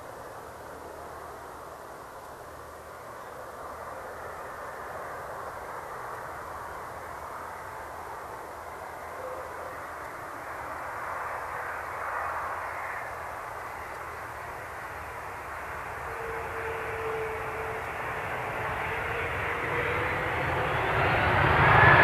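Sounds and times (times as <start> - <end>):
jet engines roaring: 3.8 - 22.0.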